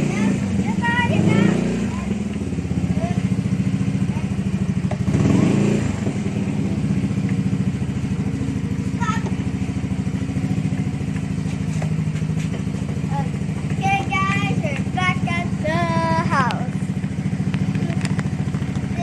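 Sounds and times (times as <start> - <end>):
scooter engine idling: 0.0 - 19.0.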